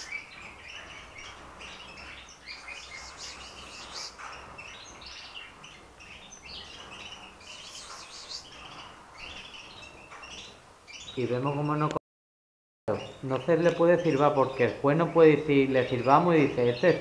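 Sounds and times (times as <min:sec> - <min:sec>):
canaries chirping and singing: 0:00.0 - 0:12.0, 0:12.9 - 0:17.0.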